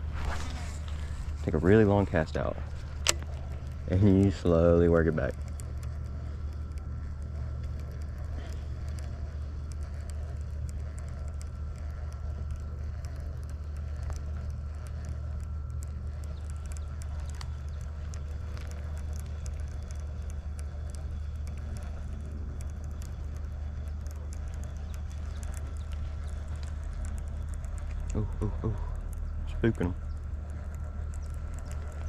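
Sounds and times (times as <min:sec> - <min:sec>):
distant road traffic rumble: 0:00.0 - 0:32.0
faint high ticks: 0:00.3 - 0:32.0.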